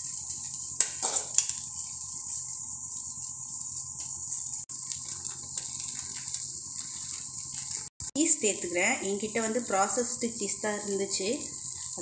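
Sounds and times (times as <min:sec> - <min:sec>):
dosa sizzling on hot griddle: 0:00.0 - 0:12.0.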